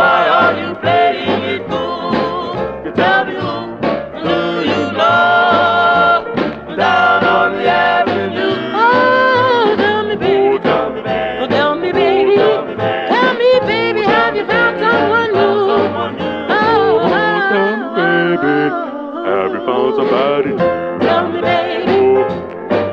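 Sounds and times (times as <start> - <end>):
vocal group singing harmonies: 0.0 - 22.5.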